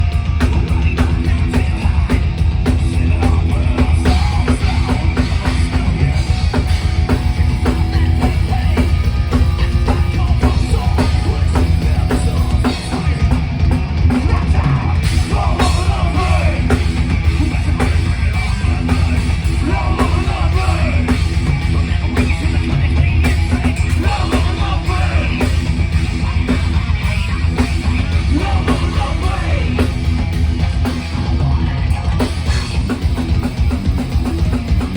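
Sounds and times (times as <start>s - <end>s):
drum kit: 0.0s - 34.9s
electric guitar: 0.0s - 34.9s
thrash metal band playing: 0.0s - 34.9s.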